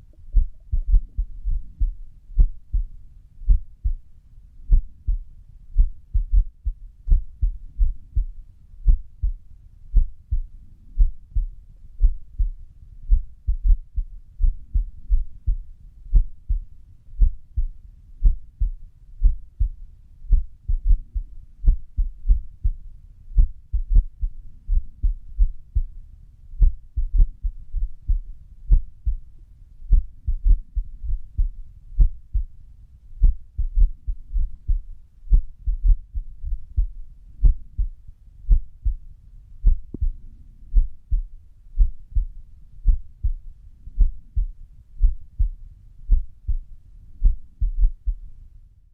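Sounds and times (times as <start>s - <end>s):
irregular heartbeat thumps: 0.1s - 26.0s, 26.6s - 32.6s, 33.2s - 39.0s, 39.6s - 48.3s.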